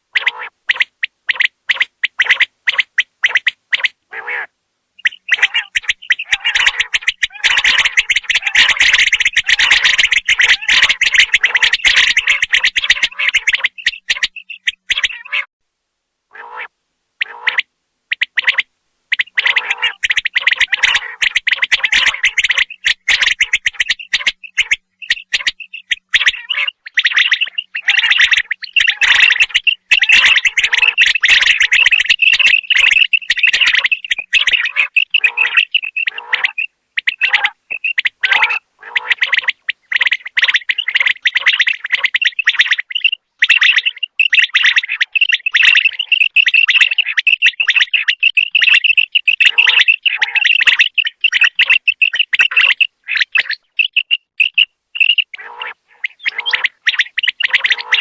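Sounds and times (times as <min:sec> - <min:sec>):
quail calling: 0:00.0 - 0:15.5, 0:16.3 - 0:58.0.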